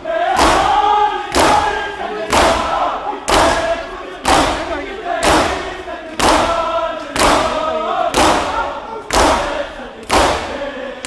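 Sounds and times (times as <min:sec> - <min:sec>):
crowd chanting: 0:00.0 - 0:11.0.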